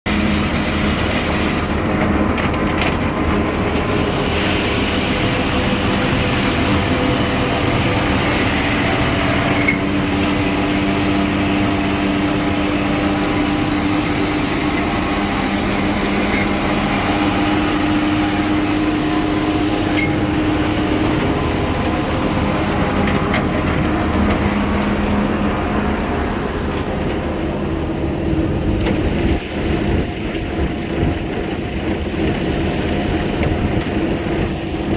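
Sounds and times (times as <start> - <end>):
grinder-mixer running: 0.1 - 34.9.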